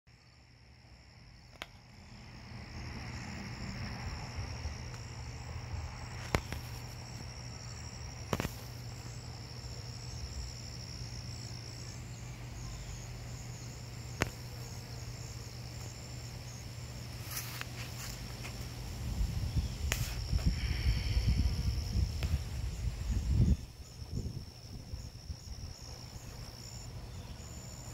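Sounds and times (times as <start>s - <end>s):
high-pitched insect trill: 0.2s - 27.9s.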